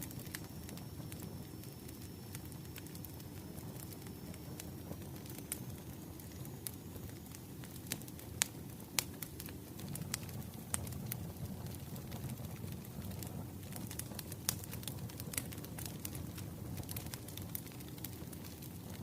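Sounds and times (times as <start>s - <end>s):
low rumble of flames: 0.0s - 19.0s
wood fire crackling: 0.0s - 19.0s.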